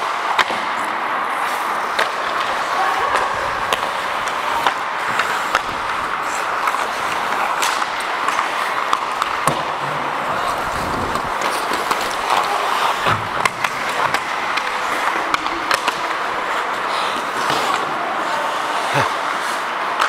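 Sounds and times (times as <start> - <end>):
hockey sticks and puck clacking: 0.0 - 20.0
skate blades scraping on ice: 0.0 - 20.0.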